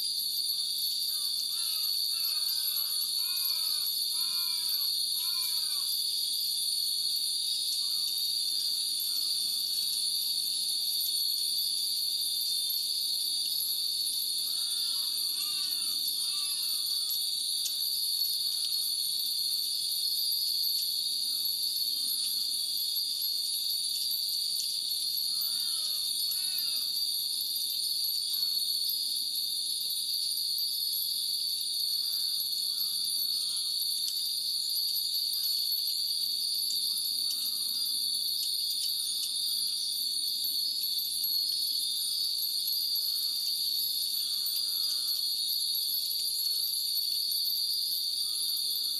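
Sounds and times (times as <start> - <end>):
cicadas droning: 0.0 - 48.9.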